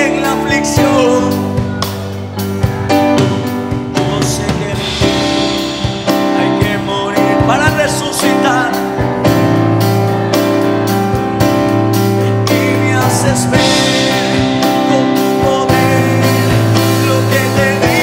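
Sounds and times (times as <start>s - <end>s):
drum kit beat: 0.0s - 18.0s
worship band music: 0.0s - 18.0s.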